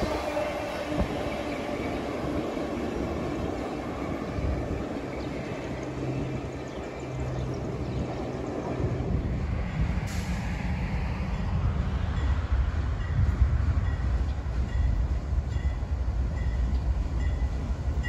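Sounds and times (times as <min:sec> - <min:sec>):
approaching train rumble: 0:00.0 - 0:18.0
freight train rolling on rails: 0:00.0 - 0:18.0.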